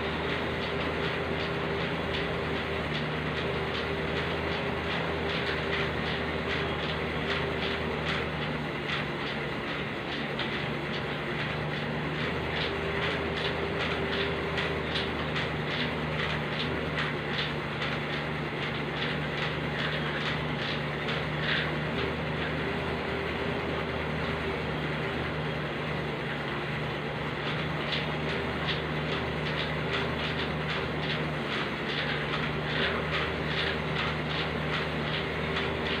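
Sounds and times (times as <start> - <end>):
cross-trainer mechanical hum: 0.0 - 36.0.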